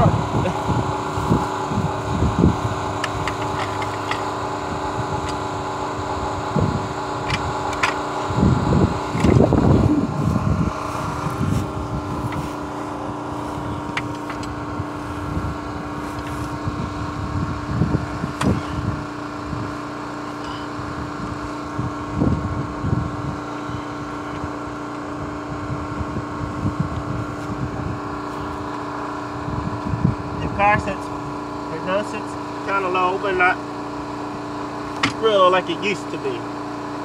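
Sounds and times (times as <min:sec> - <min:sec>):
wind gusting on microphone: 0:00.0 - 0:19.8, 0:20.7 - 0:31.6
motor humming: 0:00.0 - 0:37.0.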